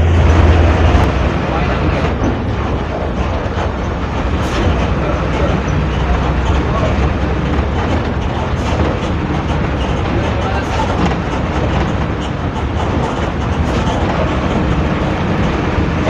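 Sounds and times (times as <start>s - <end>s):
bus diesel engine growl: 0.0s - 16.0s
road rumble: 0.0s - 16.0s.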